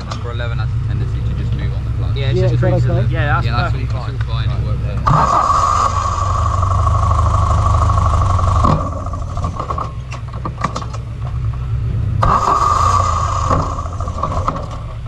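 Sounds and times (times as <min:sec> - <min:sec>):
race car engine idling: 0:00.0 - 0:15.0.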